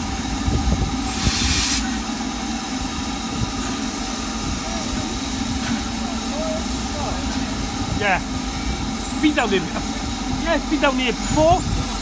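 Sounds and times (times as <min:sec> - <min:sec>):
steam locomotive hissing: 0:00.0 - 0:12.0
sharp gust of steam hiss: 0:00.4 - 0:10.3.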